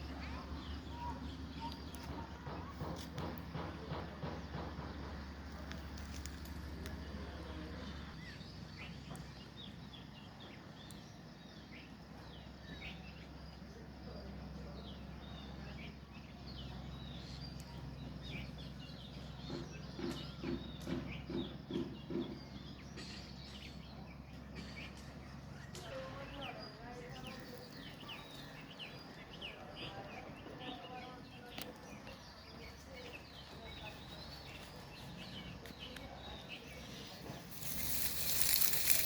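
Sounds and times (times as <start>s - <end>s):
young birds chirping: 0.0s - 39.0s.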